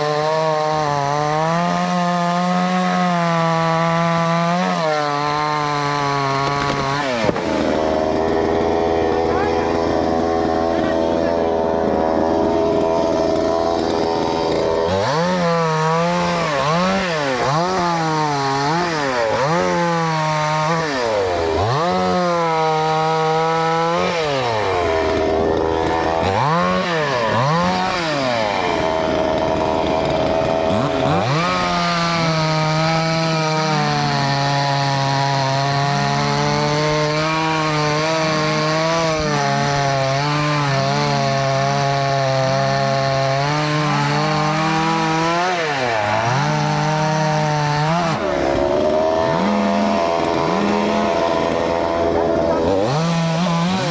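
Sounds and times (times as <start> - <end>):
chainsaw cutting wood: 0.0 - 53.9
chainsaw revving: 0.0 - 53.9.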